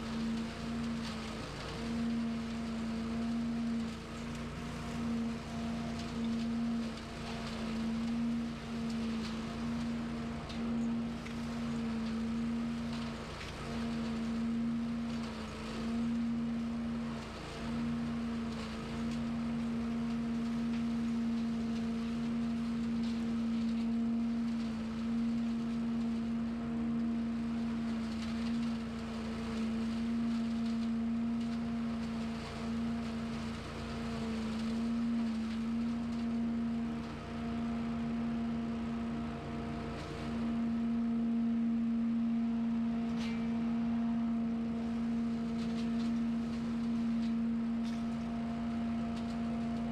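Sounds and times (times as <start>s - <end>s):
small petrol engine droning: 0.0s - 49.9s.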